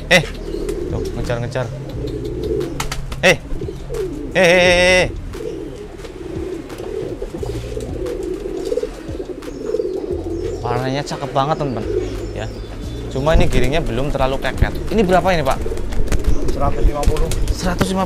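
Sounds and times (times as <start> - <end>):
pigeons cooing: 0.0 - 18.0
pitched wavering pigeon call: 0.0 - 18.0.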